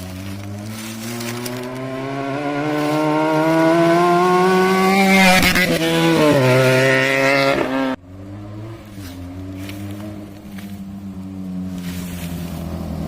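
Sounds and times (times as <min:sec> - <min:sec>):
engine running steadily: 0:00.0 - 0:13.0
motorcycle engine revving: 0:00.0 - 0:13.0.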